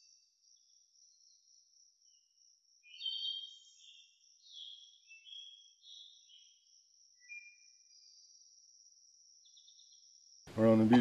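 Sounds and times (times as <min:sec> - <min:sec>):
insects droning: 0:00.0 - 0:11.0
songbird singing: 0:00.0 - 0:11.0.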